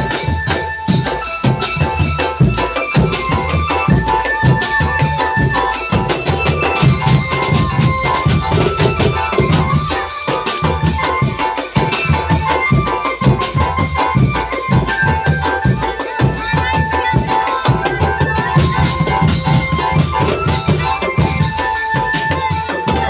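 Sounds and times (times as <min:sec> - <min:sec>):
marching drum band playing: 0:00.0 - 0:23.0.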